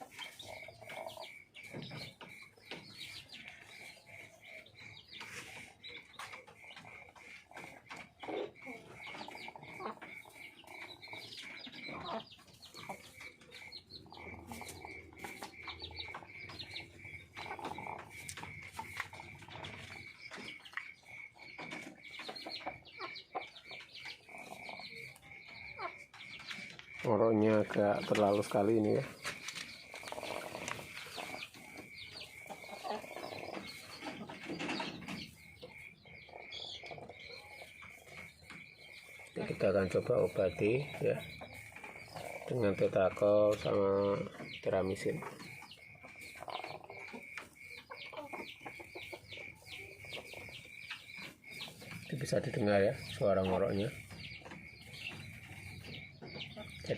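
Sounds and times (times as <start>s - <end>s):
chickens croaking snore-like breaths: 0.0s - 26.7s, 27.4s - 56.9s
chickens clucking softly: 0.0s - 56.9s.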